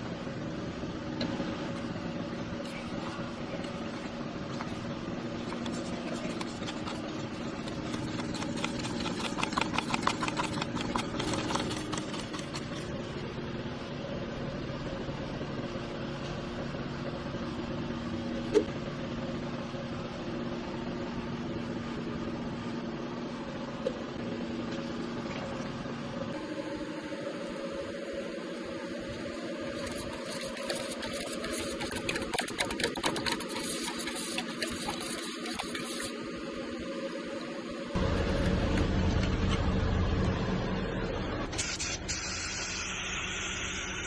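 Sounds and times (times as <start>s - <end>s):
machine humming: 0.0s - 41.6s.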